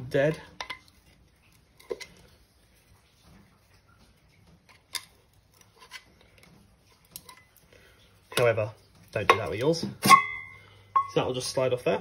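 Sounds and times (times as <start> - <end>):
faint handling noise: 0.0 - 11.6.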